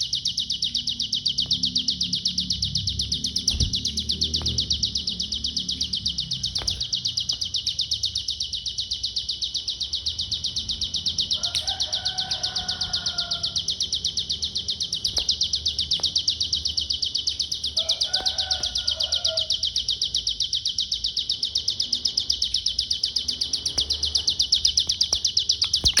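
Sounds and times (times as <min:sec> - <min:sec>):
bird rapid trill: 0:00.0 - 0:26.0.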